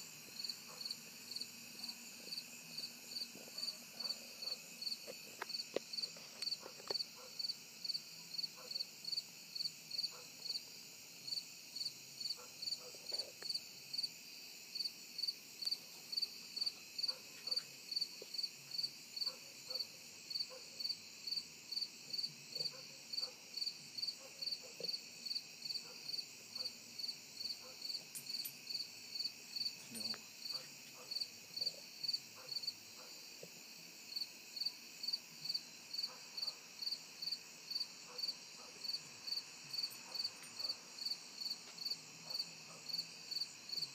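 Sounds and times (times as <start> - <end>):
cricket chirping: 0.0 - 43.9
hiss of night insects: 0.0 - 43.9.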